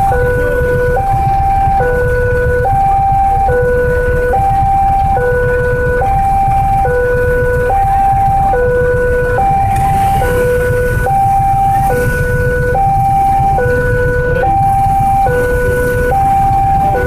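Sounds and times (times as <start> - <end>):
motorcycle engines rumbling: 0.0 - 17.0
traffic: 0.0 - 17.0
two-tone crossing alarm: 0.0 - 17.0.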